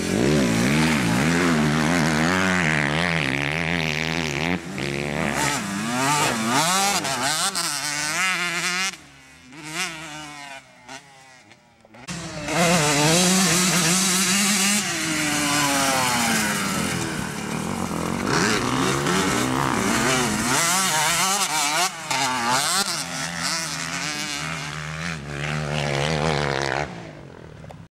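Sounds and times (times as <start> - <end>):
motocross bike revving: 0.0 - 27.6.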